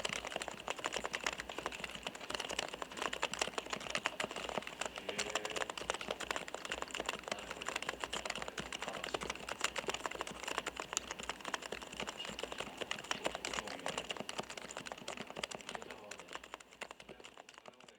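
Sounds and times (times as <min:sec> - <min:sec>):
keyboard typing: 0:00.0 - 0:17.9.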